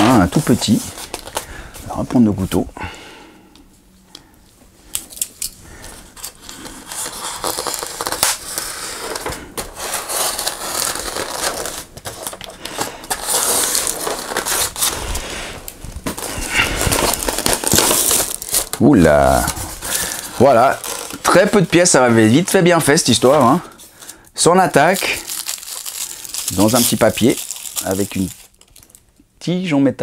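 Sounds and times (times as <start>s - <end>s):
packaging tearing and crackling: 0.0s - 1.5s, 5.0s - 29.1s.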